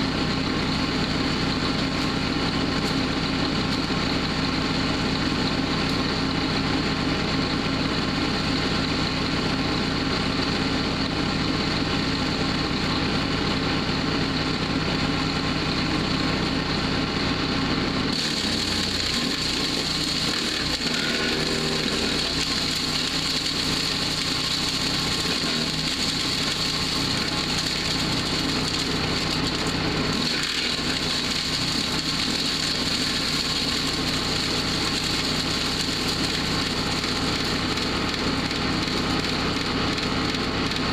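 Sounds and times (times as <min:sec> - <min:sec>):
wood going through chipper: 0:00.0 - 0:40.9
woodchipper engine running: 0:00.0 - 0:40.9.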